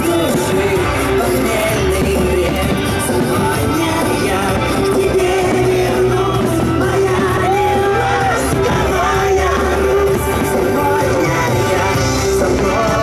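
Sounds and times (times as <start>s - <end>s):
crowd yelling and shouting: 0.0s - 13.0s
loud music: 0.0s - 13.0s
singer holding long notes: 0.0s - 13.0s.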